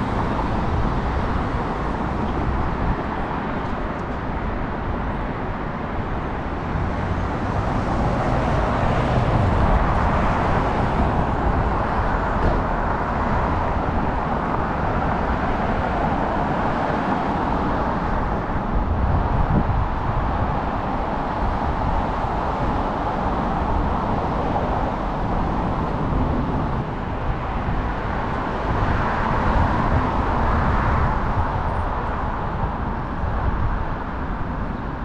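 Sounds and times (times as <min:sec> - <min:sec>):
cars driving past: 0:00.0 - 0:35.0.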